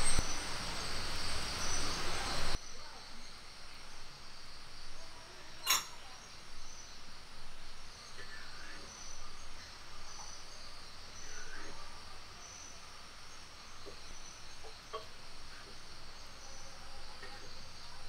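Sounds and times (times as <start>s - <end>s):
bird chirps: 0.0s - 18.0s
insects chirring: 0.0s - 18.0s.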